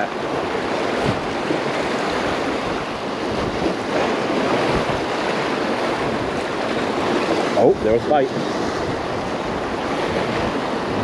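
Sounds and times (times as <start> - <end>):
surf breaking over rocks: 0.0 - 11.0
wind buffeting microphone: 0.0 - 11.0.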